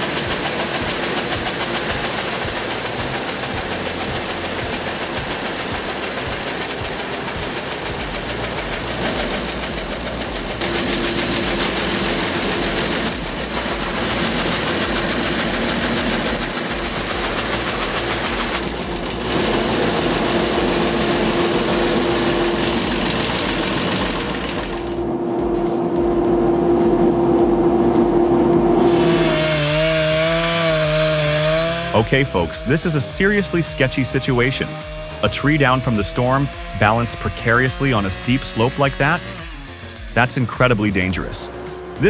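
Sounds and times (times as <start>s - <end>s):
machinery engines running: 0.0s - 42.0s
steady hum: 0.0s - 42.0s.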